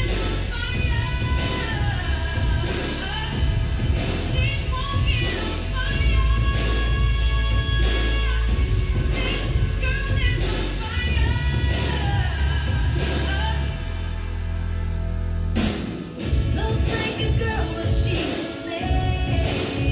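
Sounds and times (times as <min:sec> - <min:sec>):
pop song with heavy bass: 0:00.0 - 0:19.9.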